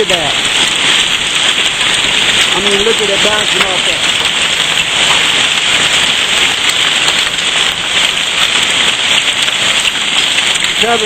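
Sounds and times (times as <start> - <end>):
hailstones ticking on surfaces: 0.0 - 11.0
heavy rain hissing: 0.0 - 11.0.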